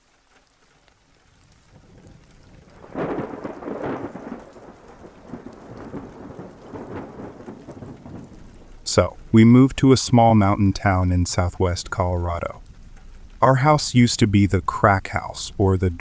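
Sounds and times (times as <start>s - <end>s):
rain: 0.0s - 16.0s
thunder rolling: 1.4s - 16.0s.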